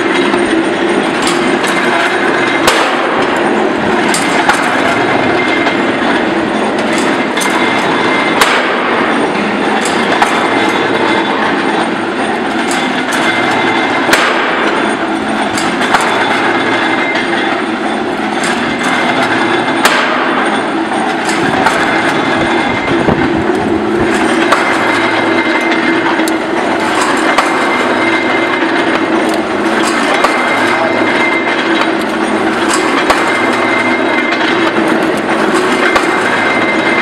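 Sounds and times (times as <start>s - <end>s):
press machine clattering: 0.0s - 37.0s
sharp clicks and knocks: 0.0s - 37.0s.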